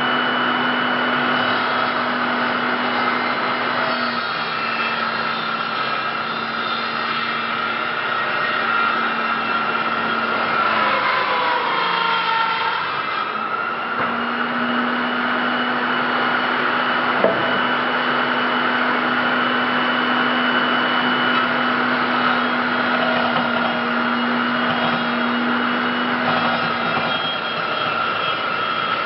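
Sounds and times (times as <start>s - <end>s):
power tool motor whining: 0.0s - 29.0s.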